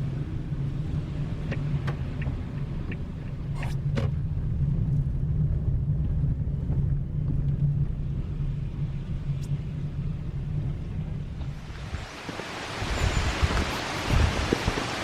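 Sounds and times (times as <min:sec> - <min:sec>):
car engine: 0:00.0 - 0:13.1
road rumble: 0:00.0 - 0:15.0.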